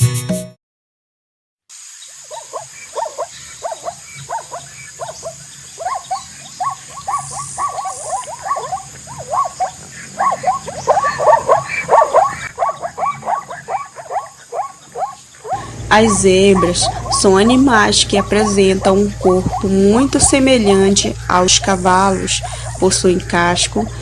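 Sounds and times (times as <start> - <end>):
zebra barking yelps: 2.2 - 24.0.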